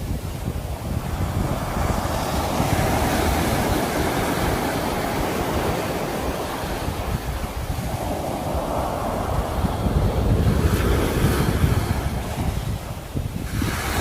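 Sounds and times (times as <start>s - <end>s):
sea waves washing onto shore: 0.0s - 14.0s
wind rumble on microphone: 0.0s - 14.0s.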